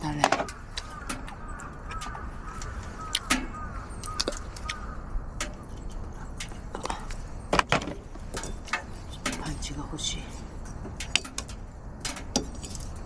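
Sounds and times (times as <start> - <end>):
birds chirping: 0.0 - 13.0
sharp clicks and knocks: 0.0 - 13.0.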